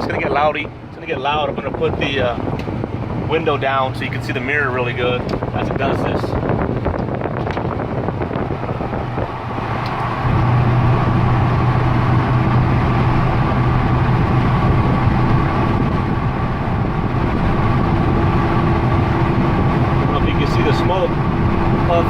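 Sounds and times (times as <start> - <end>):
diesel engine pulling under load: 0.0 - 22.0
wind noise: 0.0 - 22.0.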